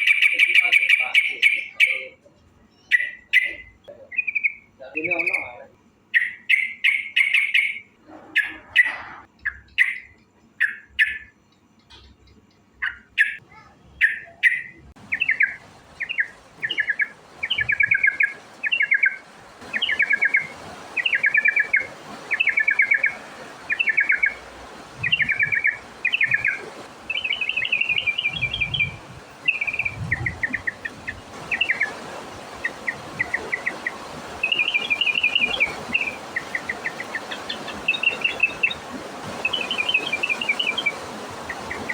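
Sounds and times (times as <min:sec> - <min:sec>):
bird chirping and trilling: 0:00.0 - 0:41.9
hissy background: 0:00.0 - 0:41.9.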